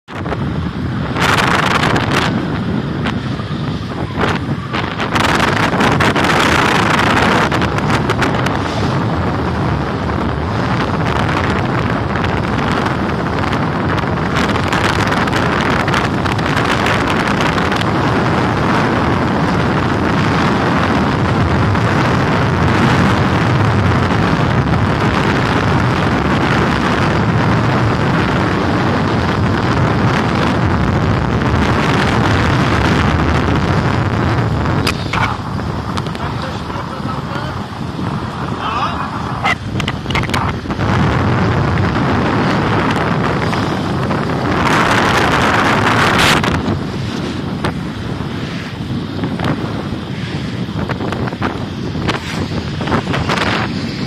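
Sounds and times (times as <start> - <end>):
wind buffeting a microphone: 0.0 - 54.0
skate wheels rolling on wet asphalt: 0.1 - 54.0.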